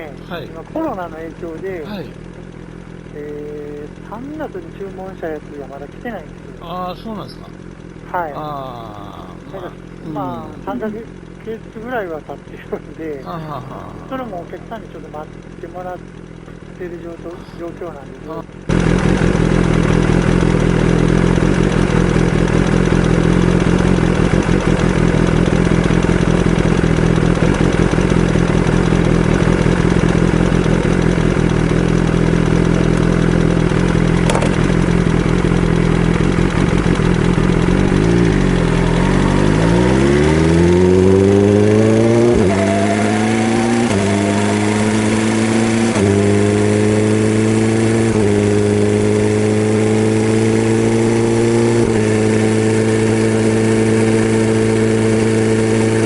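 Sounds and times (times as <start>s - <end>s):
engine clattering: 0.0s - 56.0s
motorcycle engine revving: 0.0s - 56.0s.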